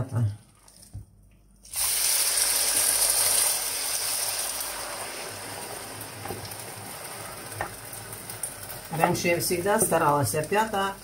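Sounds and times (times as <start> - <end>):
mushrooms sizzling in hot oil: 1.6 - 11.0.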